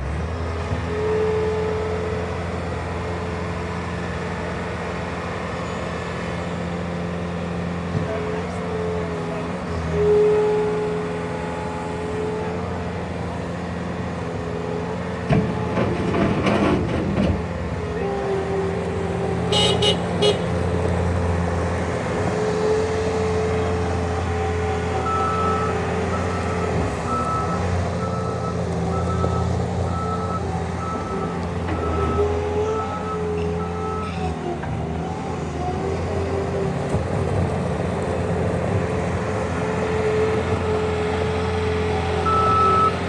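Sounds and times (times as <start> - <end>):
diesel loader engine running: 0.0 - 43.0.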